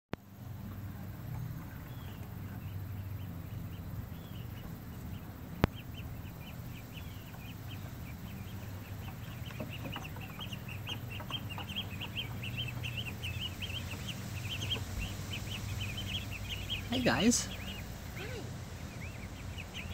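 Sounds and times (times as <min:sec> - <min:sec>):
ducklings peeping: 0:00.2 - 0:19.9
steady low hum: 0:00.2 - 0:19.9.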